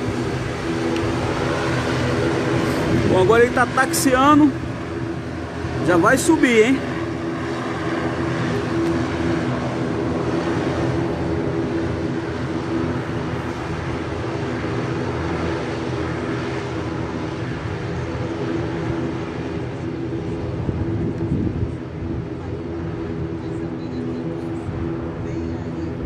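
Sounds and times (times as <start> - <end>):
airplane engines droning: 0.0 - 26.0.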